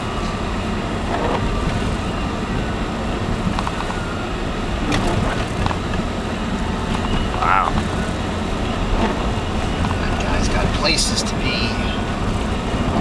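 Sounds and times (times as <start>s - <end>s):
car road noise on snow: 0.0s - 13.0s.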